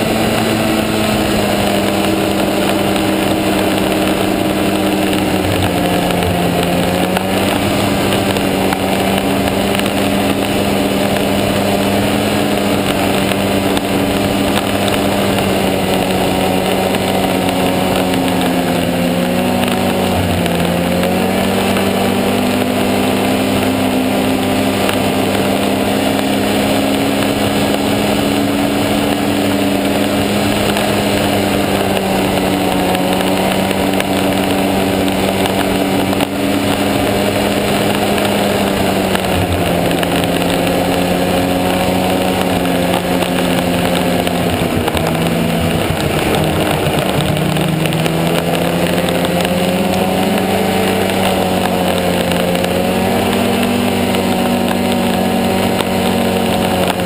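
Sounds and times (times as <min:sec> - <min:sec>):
snowmobile engine running: 0:00.0 - 0:57.0
track and wind noise: 0:00.0 - 0:57.0.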